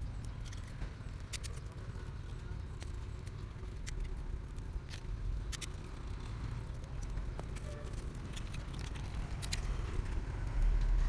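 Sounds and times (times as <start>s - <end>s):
snail shells clicking: 0.0s - 10.8s
steady low rumble: 0.0s - 11.0s.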